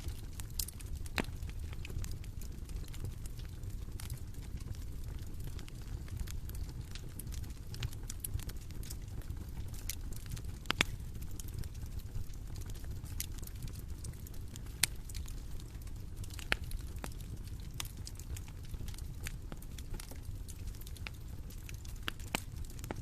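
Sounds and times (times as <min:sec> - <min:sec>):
bonfire crackling: 0:00.0 - 0:23.0
burning wood popping: 0:00.0 - 0:23.0.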